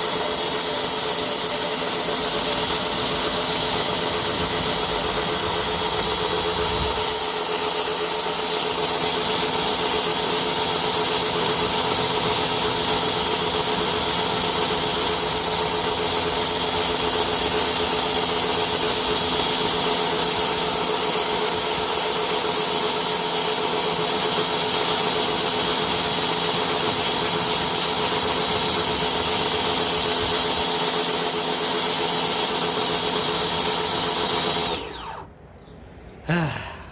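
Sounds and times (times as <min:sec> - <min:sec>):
high-pressure water jet hissing: 0:00.0 - 0:35.3
pressure washer motor humming: 0:00.0 - 0:35.4.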